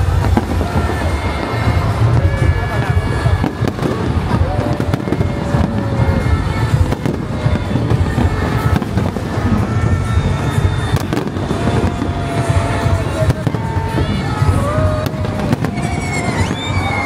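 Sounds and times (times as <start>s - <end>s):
fireworks booming: 0.0s - 17.0s
sharp crackling bangs: 0.0s - 17.0s.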